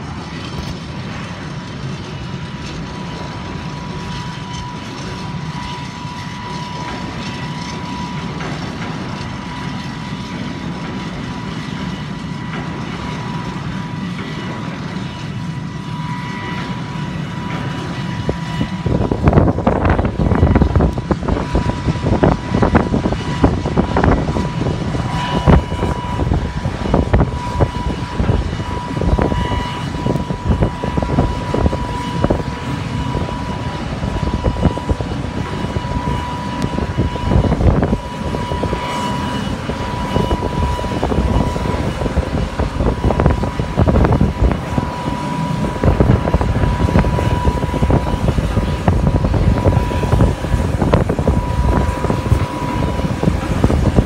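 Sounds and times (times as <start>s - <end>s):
jet engine low rumble: 0.0s - 54.0s
wind buffeting microphone: 0.0s - 54.0s.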